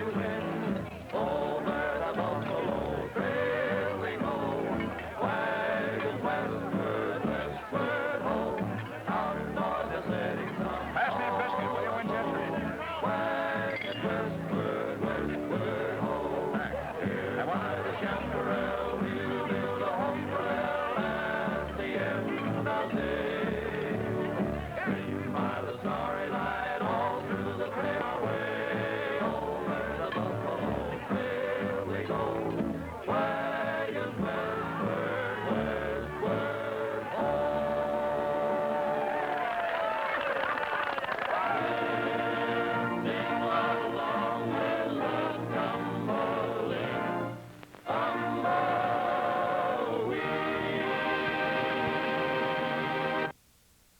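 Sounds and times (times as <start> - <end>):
group singing country music: 0.0 - 53.4.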